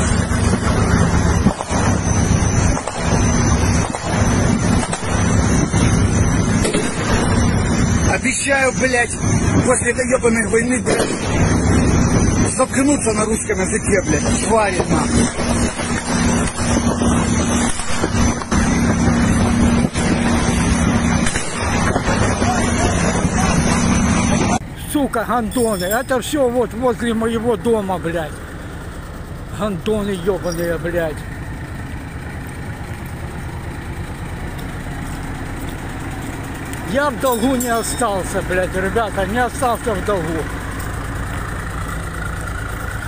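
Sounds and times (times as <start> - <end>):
diesel engine idling: 0.0 - 43.0
loud low rumble with hum: 0.0 - 43.0.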